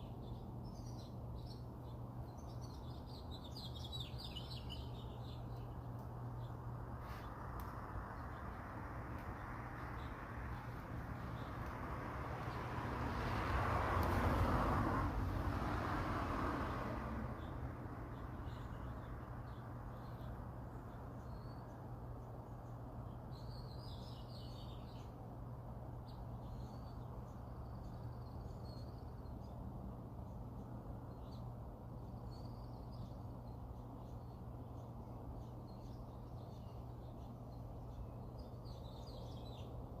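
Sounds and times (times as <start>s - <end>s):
small birds chirping: 0.0s - 13.4s, 17.4s - 40.0s
steady low background noise: 0.0s - 40.0s.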